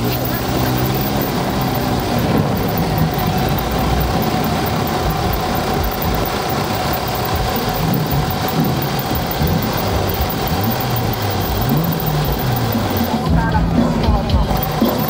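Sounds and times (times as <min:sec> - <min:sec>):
toy car motor running: 0:00.0 - 0:13.4, 0:14.4 - 0:15.0
wheels rumbling on tarmac: 0:00.0 - 0:15.0.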